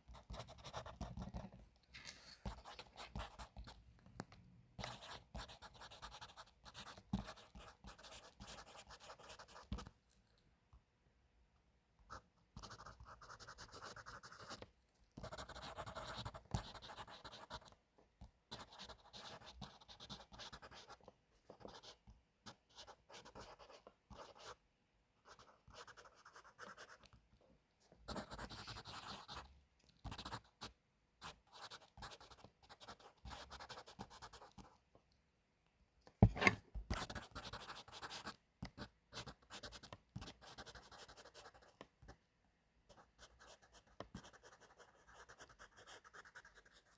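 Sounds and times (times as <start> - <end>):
pencil writing on paper: 0.0 - 1.6, 2.4 - 3.8, 4.8 - 9.9, 12.1 - 17.8, 18.5 - 24.6, 25.2 - 27.1, 28.1 - 34.8, 36.2 - 41.9, 42.9 - 46.9.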